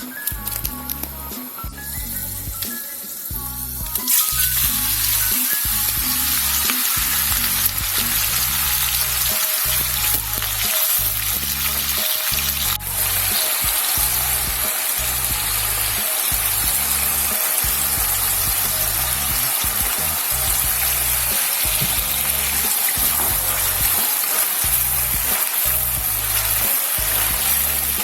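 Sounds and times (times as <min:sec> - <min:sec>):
background music: 0:00.0 - 0:28.0
food sizzling in hot oil: 0:00.0 - 0:28.0.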